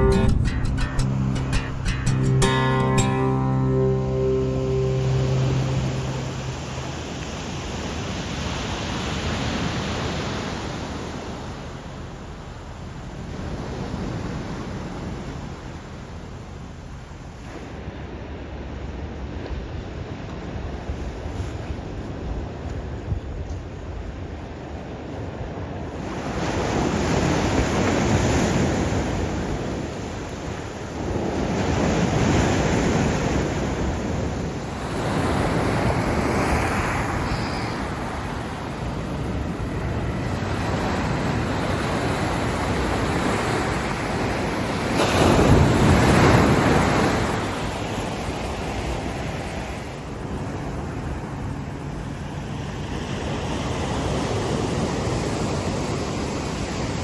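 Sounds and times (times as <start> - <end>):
sea waves breaking on shore: 2.5 - 22.3, 25.4 - 57.0.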